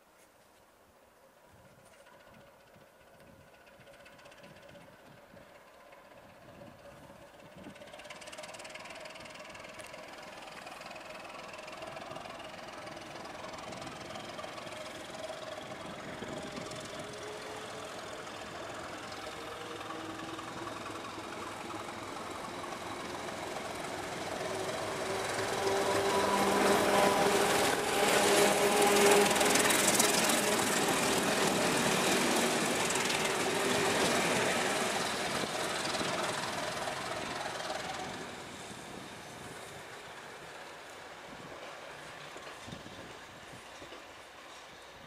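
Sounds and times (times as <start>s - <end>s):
diesel locomotive passing: 1.7s - 45.0s.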